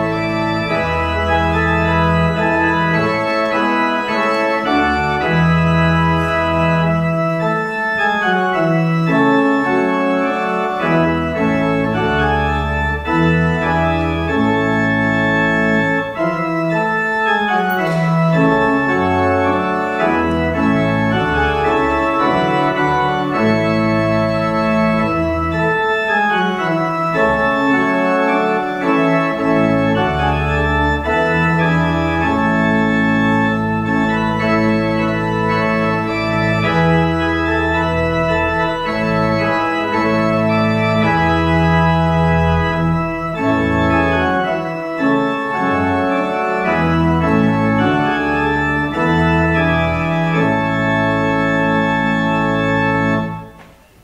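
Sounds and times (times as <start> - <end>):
deep organ pedal bass: 0.0 - 54.0
pipe organ playing chords: 0.0 - 54.0.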